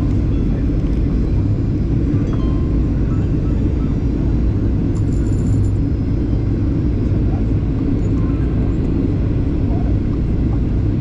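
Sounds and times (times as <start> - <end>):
airflow over fuselage: 0.0 - 11.0
jet engine rumble: 0.0 - 11.0.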